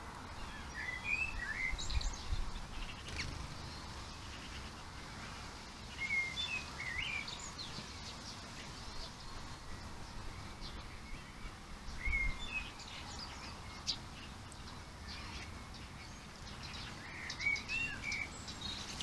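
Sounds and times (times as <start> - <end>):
songbirds chirping and warbling: 0.0 - 19.0
steady low background noise: 0.0 - 19.0.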